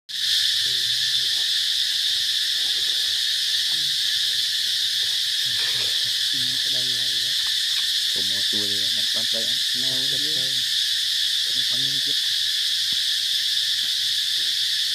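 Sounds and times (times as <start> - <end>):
insects droning: 0.1 - 14.9.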